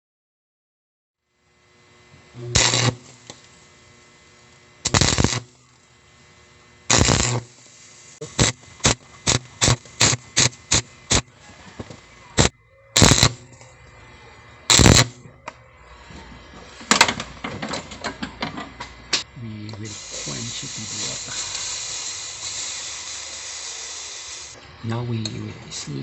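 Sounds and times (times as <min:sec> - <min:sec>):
electric welder arc crackling: 0:01.3 - 0:26.0
steady low hum: 0:01.3 - 0:26.0.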